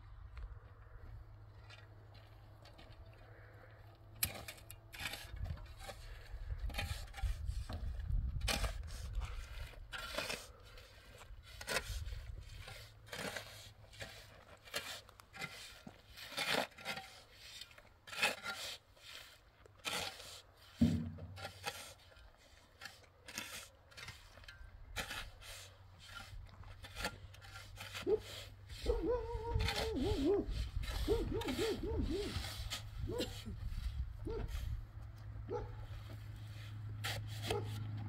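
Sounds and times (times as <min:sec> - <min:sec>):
scraping and rubbing strokes: 0:01.6 - 0:38.0.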